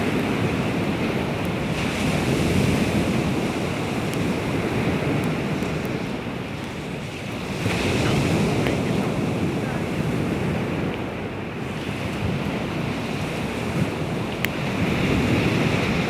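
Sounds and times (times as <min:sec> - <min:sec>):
waves washing onto shore: 0:00.0 - 0:16.0
wind on microphone: 0:00.0 - 0:16.0.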